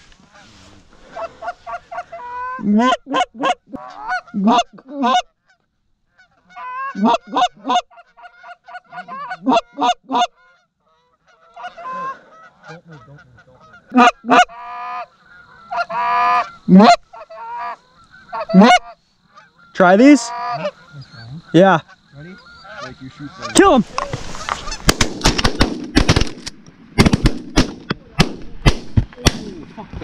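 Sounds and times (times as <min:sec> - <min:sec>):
geese honking and clucking: 0:00.0 - 0:25.6.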